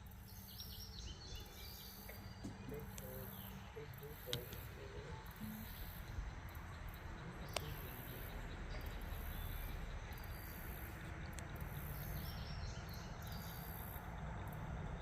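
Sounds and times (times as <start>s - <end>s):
faint bird chirps: 0.0s - 14.7s
insect chorus buzzing in pulses: 0.0s - 15.0s
low rumble of wind: 0.0s - 15.0s.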